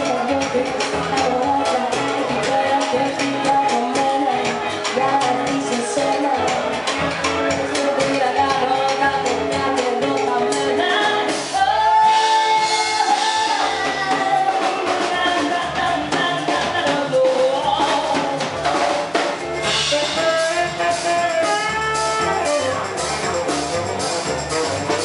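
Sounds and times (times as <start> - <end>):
woman singing: 0.0 - 21.8
drum kit: 0.0 - 25.0
guitar: 0.0 - 25.0.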